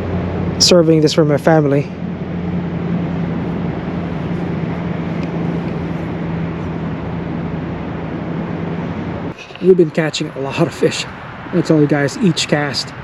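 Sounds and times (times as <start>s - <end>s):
constant low hum: 0.0s - 13.0s
steady rushing noise: 0.0s - 13.0s.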